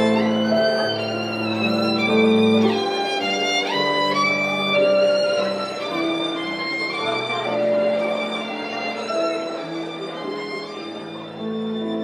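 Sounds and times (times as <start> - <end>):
solo violin slow melody: 0.0 - 12.0.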